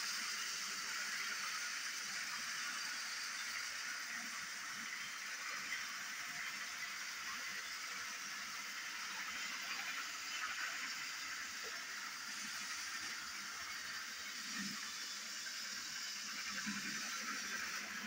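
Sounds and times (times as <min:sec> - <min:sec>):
toy train motor whirring: 0:00.0 - 0:18.0.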